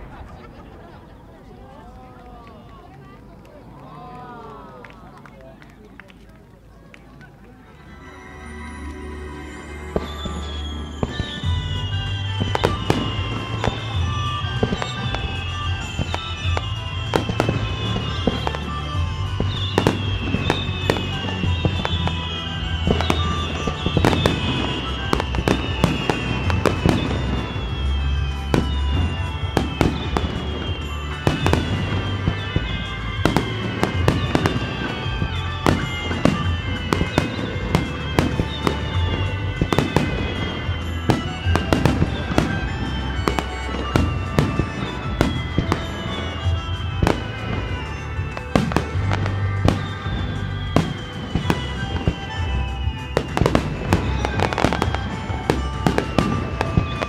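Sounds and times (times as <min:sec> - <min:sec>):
fireworks crackling: 0:00.0 - 0:57.0
music: 0:07.6 - 0:57.0
descending firework whistles: 0:07.8 - 0:57.0
fireworks bursting with bangs: 0:07.9 - 0:57.0.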